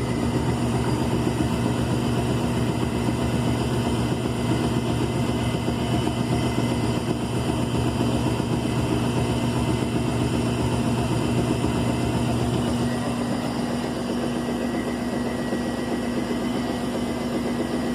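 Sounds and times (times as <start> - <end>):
washing machine motor hum: 0.0 - 17.9.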